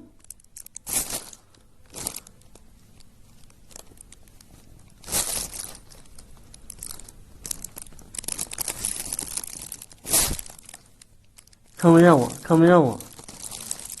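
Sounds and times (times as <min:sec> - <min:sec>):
plastic bag crinkling: 0:00.2 - 0:14.0.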